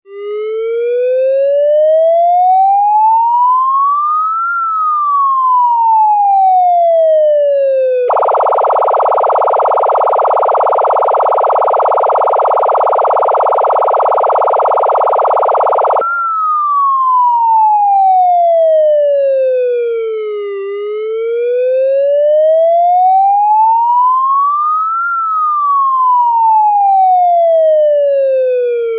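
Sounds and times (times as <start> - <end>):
police siren: 0.1 - 28.9.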